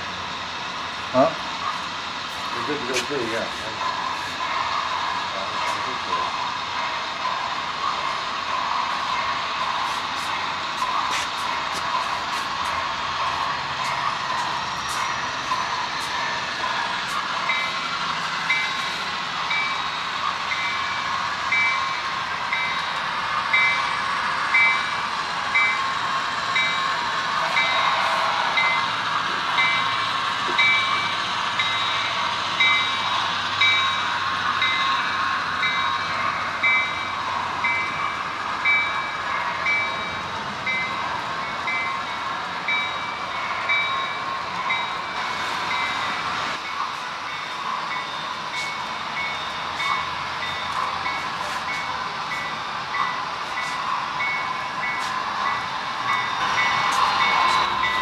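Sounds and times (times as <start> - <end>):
model train rumbling on track: 0.0 - 58.0
electronic locomotive bell ringing: 2.5 - 58.0.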